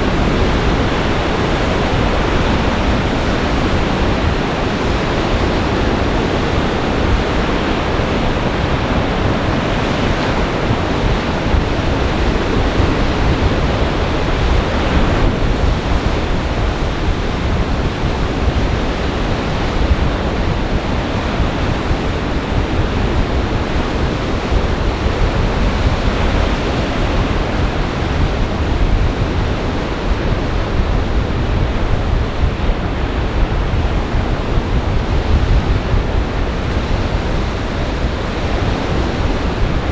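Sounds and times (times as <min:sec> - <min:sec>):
waves breaking: 0:00.0 - 0:39.9
wind buffeting microphone: 0:00.0 - 0:39.9.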